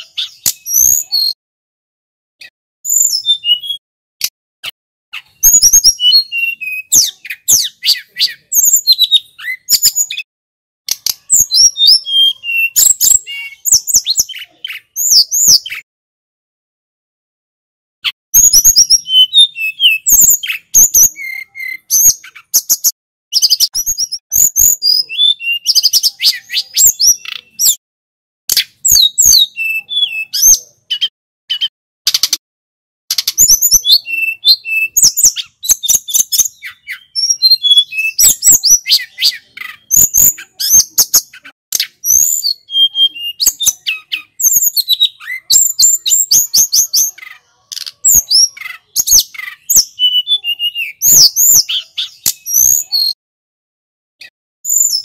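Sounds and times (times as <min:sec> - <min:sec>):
bird singing warbled phrases: 0:00.0 - 0:01.4, 0:02.4 - 0:10.3, 0:10.9 - 0:15.9, 0:18.0 - 0:27.8, 0:28.5 - 0:32.4, 0:33.1 - 0:53.2, 0:54.2 - 0:55.0.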